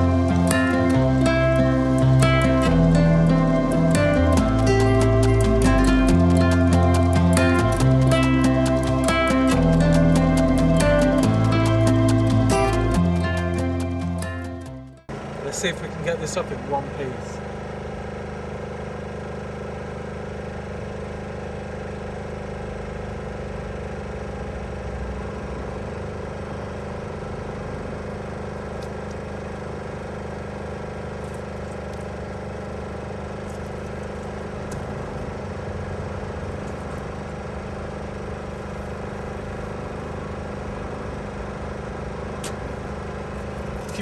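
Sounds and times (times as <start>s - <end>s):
generator engine running: 0.0s - 44.0s.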